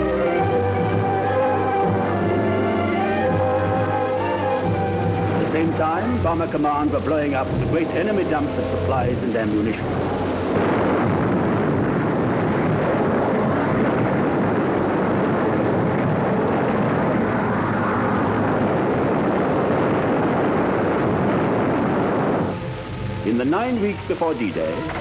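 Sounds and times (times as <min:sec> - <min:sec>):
aircraft engine drone: 0:00.0 - 0:25.0.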